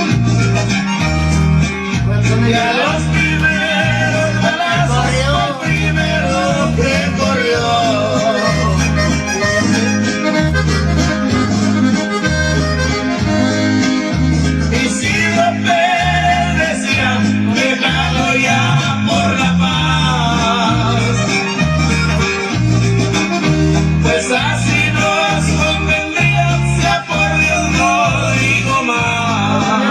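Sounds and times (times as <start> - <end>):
accordion melody: 0.0 - 29.9
bass beat: 0.0 - 29.9
guitar: 0.0 - 29.9.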